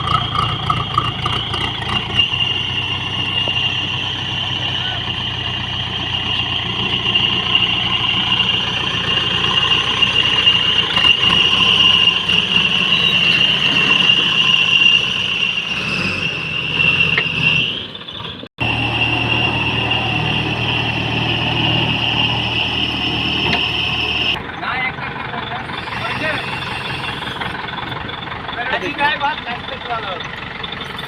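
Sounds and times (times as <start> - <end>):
high-pitched whine: 0.0 - 24.7, 25.4 - 28.1
diesel engine running: 0.0 - 31.0.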